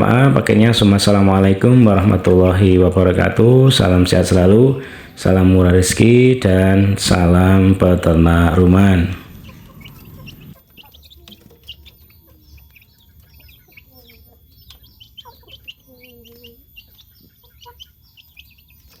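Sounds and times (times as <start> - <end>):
chicks peeping: 0.0 - 19.0
clucking calls: 0.0 - 19.0.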